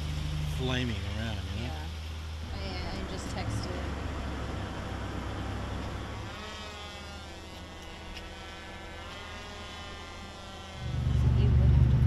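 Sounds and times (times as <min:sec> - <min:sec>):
motor buzzing drone: 0:00.0 - 0:12.0.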